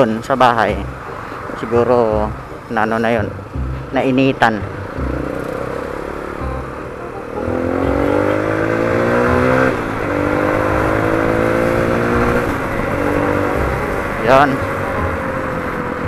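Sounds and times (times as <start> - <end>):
motorcycle engine accelerating: 1.8 - 16.0.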